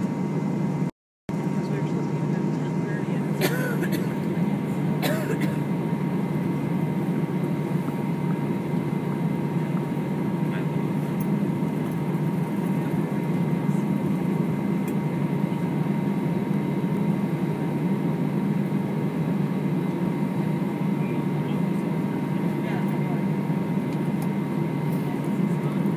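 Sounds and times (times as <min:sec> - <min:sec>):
airplane cabin drone: 0:00.0 - 0:25.9.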